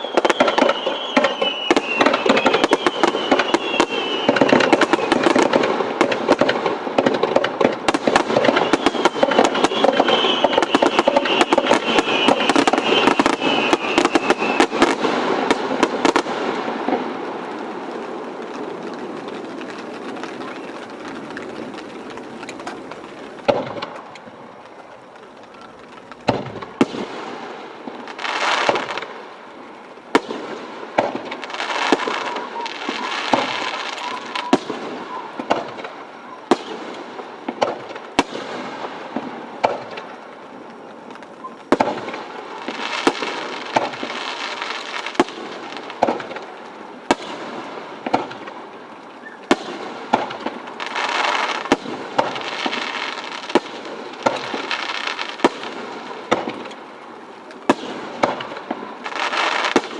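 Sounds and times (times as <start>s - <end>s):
fireworks bangs: 0.0s - 59.9s
fireworks hissing: 0.0s - 59.9s.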